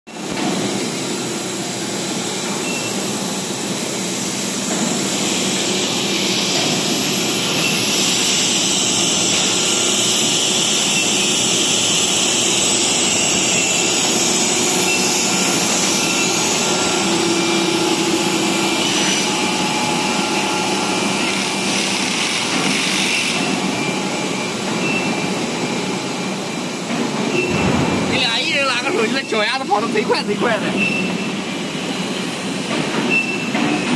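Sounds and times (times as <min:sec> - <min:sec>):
extrusion machine hissing and humming: 0:00.2 - 0:33.9.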